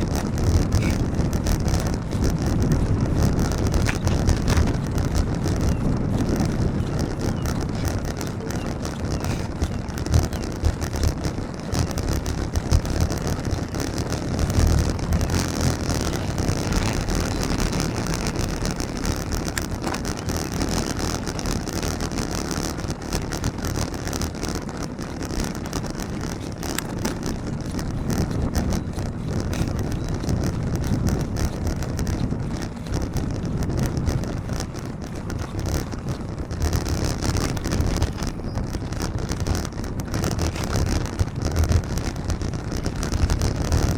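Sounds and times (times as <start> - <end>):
road traffic: 0.0 - 43.9
wind buffeting microphone: 0.0 - 43.9.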